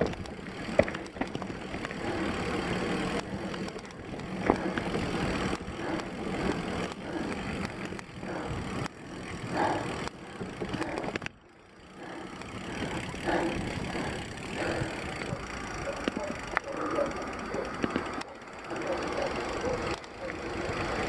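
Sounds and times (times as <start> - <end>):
bike rattles and knocks: 0.0 - 21.0
mountain bike tyre noise: 0.0 - 21.0.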